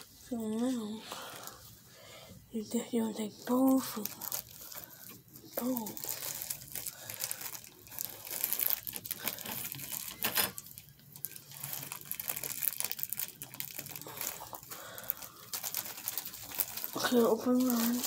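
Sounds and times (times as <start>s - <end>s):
plastic bag crinkling: 2.7s - 18.0s.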